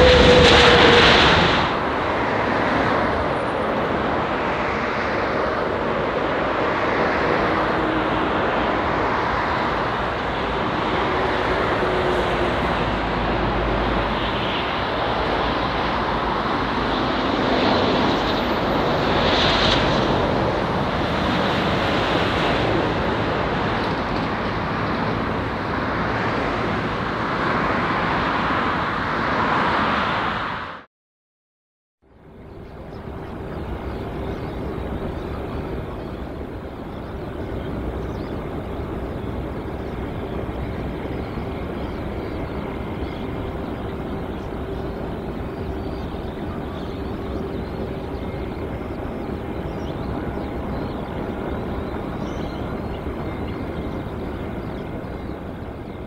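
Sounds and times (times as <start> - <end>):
jet engines rushing: 0.0 - 30.9, 32.3 - 56.0.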